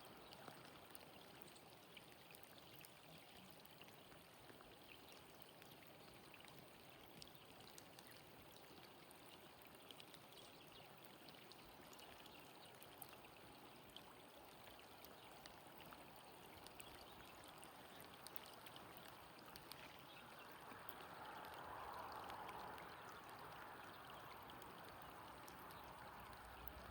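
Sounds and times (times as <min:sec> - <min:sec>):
running water rushing: 0:00.0 - 0:26.9
small water drips: 0:00.0 - 0:26.9.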